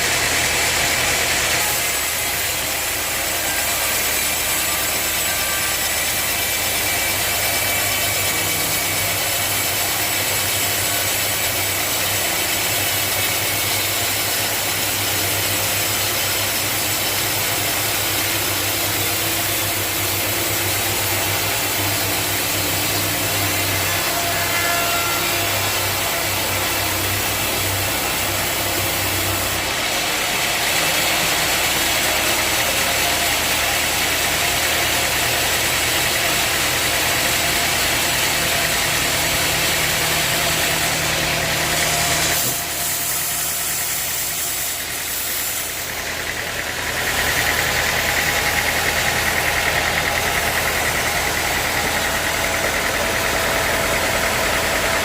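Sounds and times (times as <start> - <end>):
sawmill saw running: 0.0 - 55.0.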